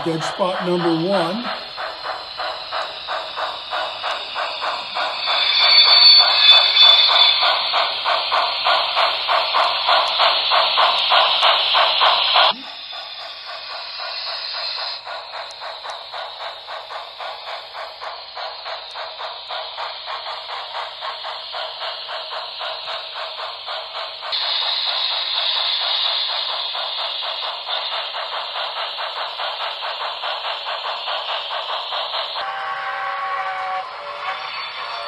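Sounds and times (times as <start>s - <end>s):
model steam locomotive chuffing: 0.0s - 35.0s.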